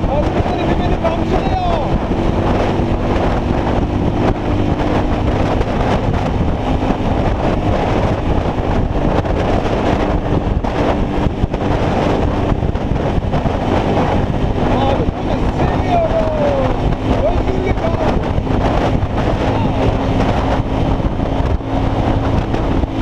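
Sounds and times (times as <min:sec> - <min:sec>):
motorcycle engine drone: 0:00.0 - 0:23.0
wind buffeting on microphone: 0:00.0 - 0:23.0.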